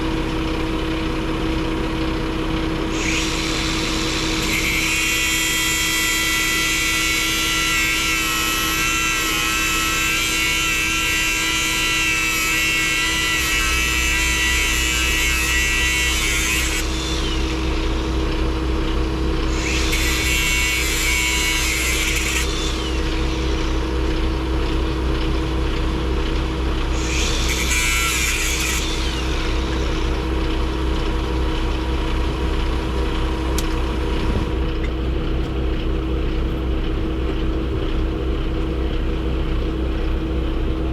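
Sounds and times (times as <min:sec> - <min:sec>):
vehicle running hum: 0:00.0 - 0:40.9.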